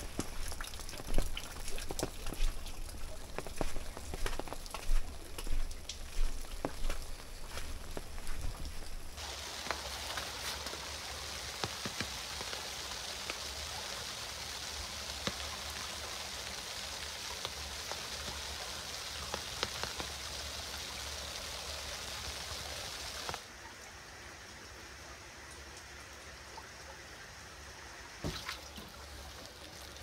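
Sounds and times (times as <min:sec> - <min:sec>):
rain and wet snow on a stream: 0:00.0 - 0:30.0
trickle of running water: 0:00.0 - 0:30.0.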